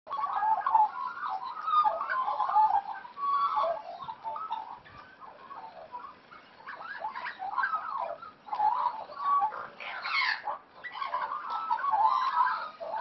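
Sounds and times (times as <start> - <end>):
magpies warbling: 0.1 - 13.0.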